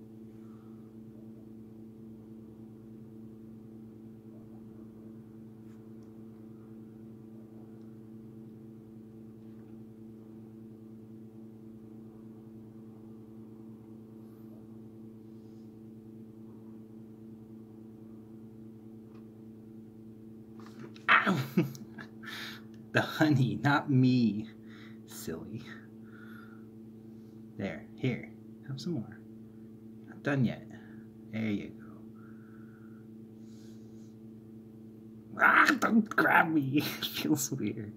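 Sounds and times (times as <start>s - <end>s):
electrical hum: 0.0s - 37.9s.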